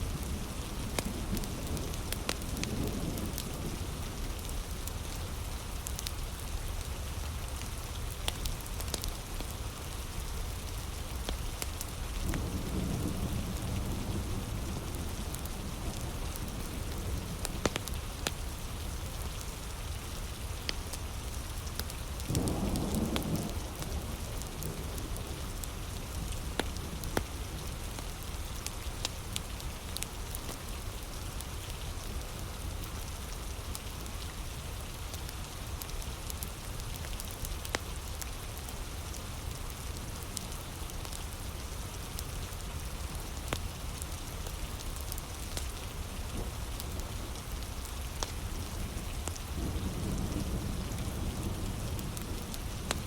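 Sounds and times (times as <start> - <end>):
heavy rain falling: 0.0 - 53.0
wood fire crackling: 0.2 - 53.0.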